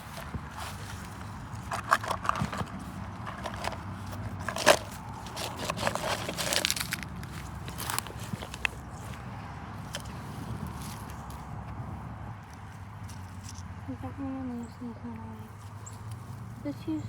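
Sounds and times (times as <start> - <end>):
dry leaves and twigs crunching: 0.0 - 13.9.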